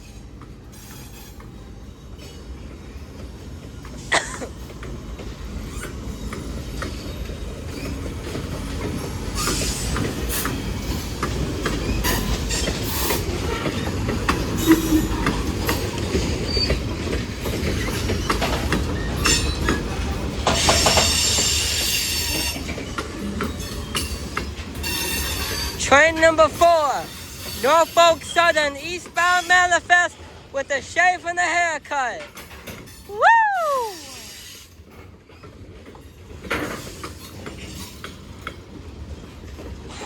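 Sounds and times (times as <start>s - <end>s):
rail clicks: 0.0s - 40.0s
train wheels rumbling on rail: 0.0s - 40.0s.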